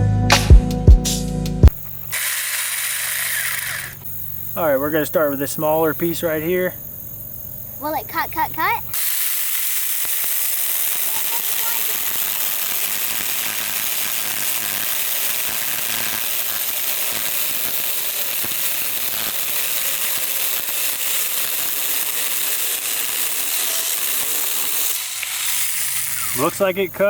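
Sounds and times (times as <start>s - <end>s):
chainsaw cutting log: 1.7s - 27.0s.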